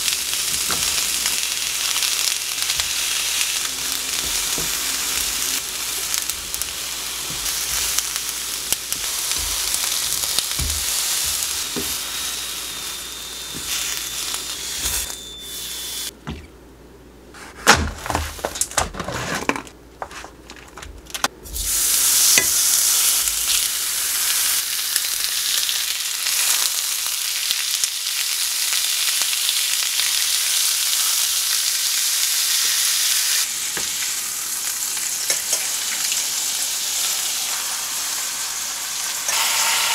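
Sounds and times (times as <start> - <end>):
vegetables sizzling in frying pan: 0.0 - 16.1, 21.4 - 39.9
meat searing loud sizzle: 0.0 - 16.2, 21.4 - 39.9.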